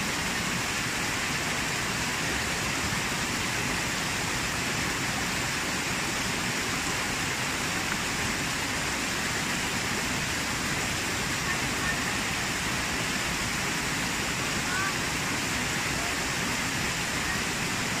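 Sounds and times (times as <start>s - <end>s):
waterfall pouring over rocks: 0.0s - 18.0s.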